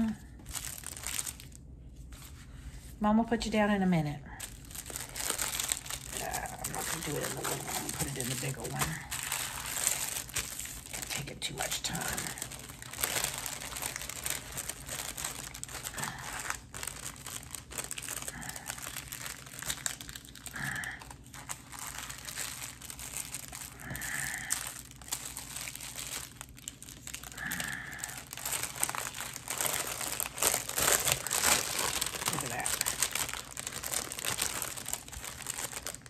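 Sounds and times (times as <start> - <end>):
plastic bags crinkling: 0.0 - 2.4, 4.4 - 36.0.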